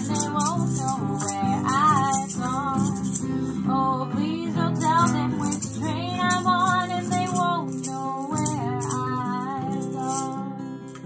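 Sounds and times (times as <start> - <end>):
maracas shaking: 0.0 - 3.6, 4.7 - 11.0
acoustic guitar playing: 0.0 - 11.0.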